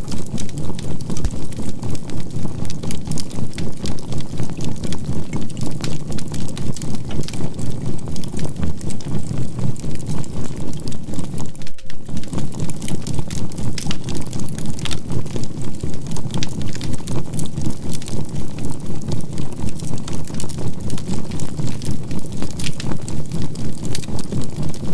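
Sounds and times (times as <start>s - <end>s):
campfire crackling: 0.1s - 24.5s.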